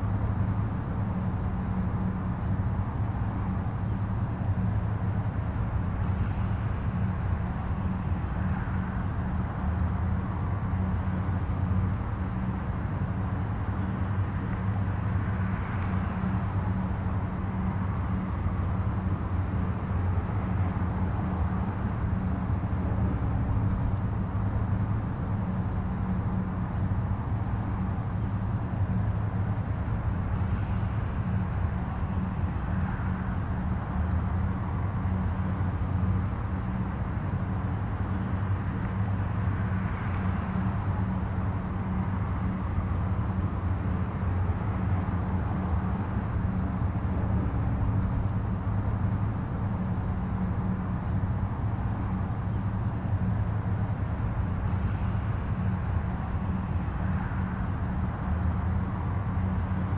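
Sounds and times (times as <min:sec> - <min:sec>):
distant highway traffic: 0:00.0 - 0:59.9.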